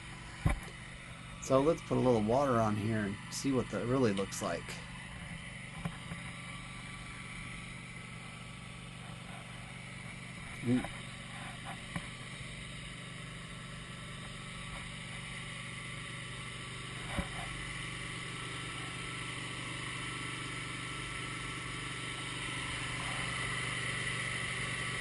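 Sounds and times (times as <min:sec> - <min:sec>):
sawmill engine idling: 0:00.0 - 0:25.0.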